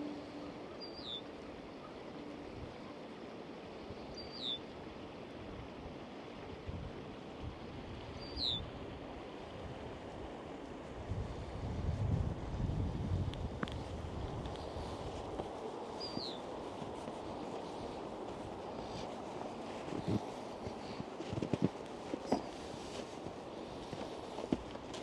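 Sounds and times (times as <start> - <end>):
rushing outdoor background noise: 0.0 - 25.0.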